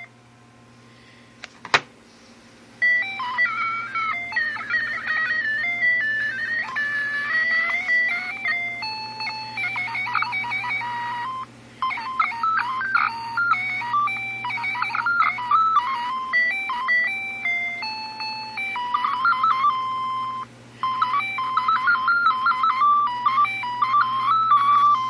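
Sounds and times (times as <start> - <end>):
alarm clock electronic beeping: 2.8 - 25.0.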